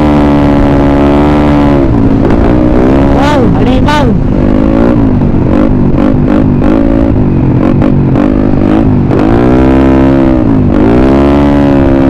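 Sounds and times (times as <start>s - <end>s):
scooter engine with loud exhaust: 0.0s - 12.0s.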